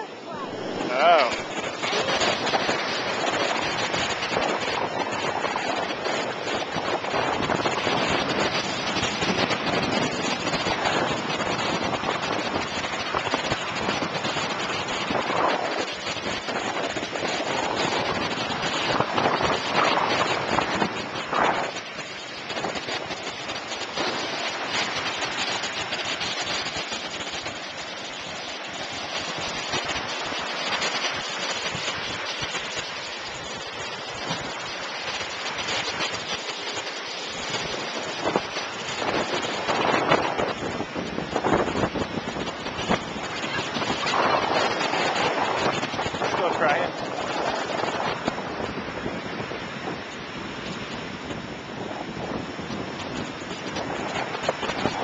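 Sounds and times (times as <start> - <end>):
small waves washing onto beach: 0.0 - 55.0
wind on microphone: 0.0 - 55.0.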